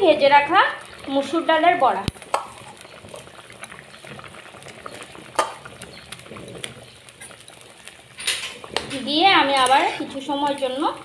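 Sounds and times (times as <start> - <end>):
curry bubbling at a boil: 0.0 - 11.0.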